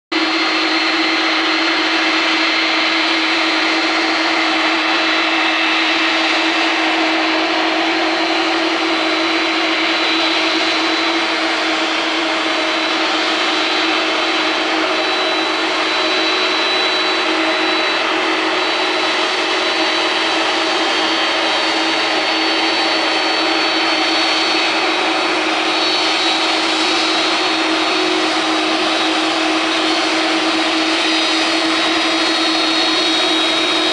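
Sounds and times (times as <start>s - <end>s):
jet engines running: 0.1s - 33.9s.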